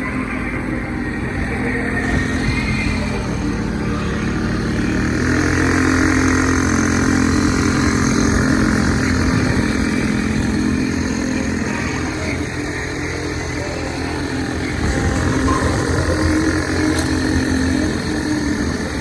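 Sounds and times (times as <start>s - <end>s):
small motorbike engine running: 0.0s - 19.0s.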